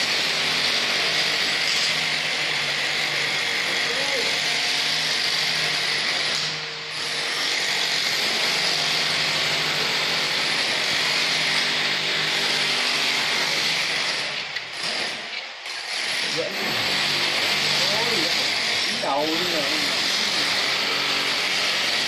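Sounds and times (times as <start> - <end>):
power tool motor hissing: 0.0 - 22.0.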